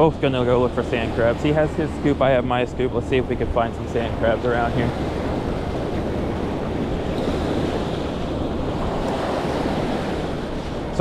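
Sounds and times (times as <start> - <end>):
ocean waves washing over sand: 0.0 - 11.0
wind buffeting microphone: 0.0 - 11.0.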